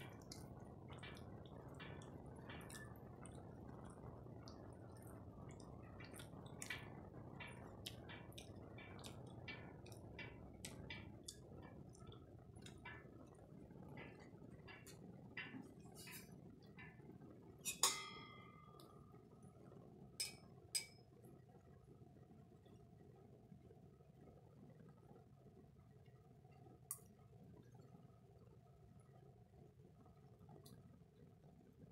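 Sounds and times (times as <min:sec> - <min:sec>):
small irregular clicks and taps: 0:00.0 - 0:21.4, 0:25.9 - 0:29.2, 0:29.9 - 0:31.9
faint low hum: 0:00.0 - 0:31.9.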